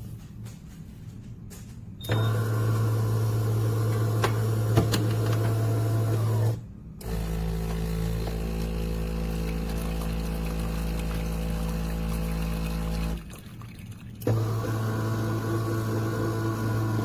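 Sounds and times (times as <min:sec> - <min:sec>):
espresso machine motor hum: 0:02.1 - 0:13.2, 0:14.2 - 0:17.0.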